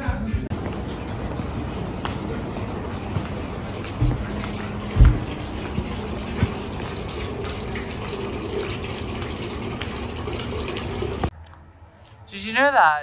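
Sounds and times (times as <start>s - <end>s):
water rushing: 0.5s - 11.3s.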